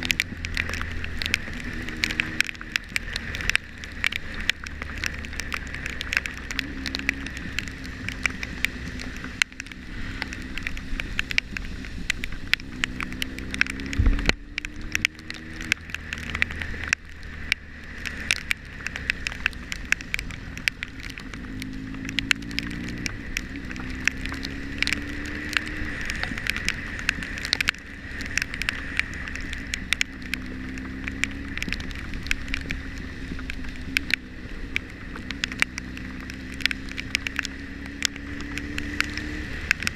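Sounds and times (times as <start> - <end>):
raindrops ticking on microphone: 0.0 - 39.9
vehicle engine accelerating: 0.0 - 39.9.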